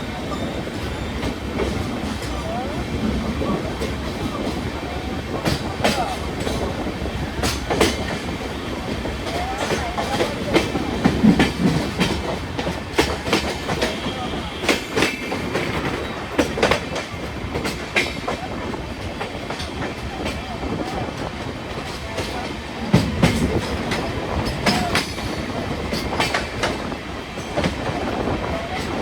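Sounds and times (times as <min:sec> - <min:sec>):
train rumble: 0:00.0 - 0:29.0
train wheels clattering over rail joints: 0:00.0 - 0:29.0.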